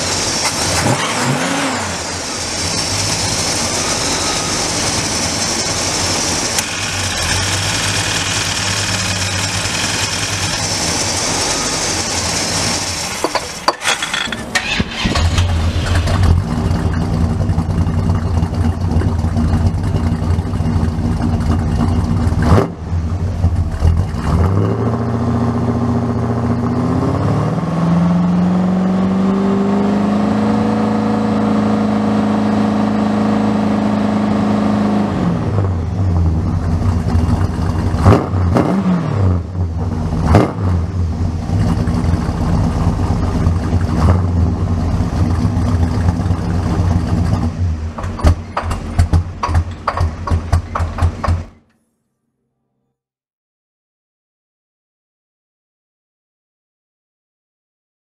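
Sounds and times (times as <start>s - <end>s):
car engine idling and revving: 0.0s - 51.6s.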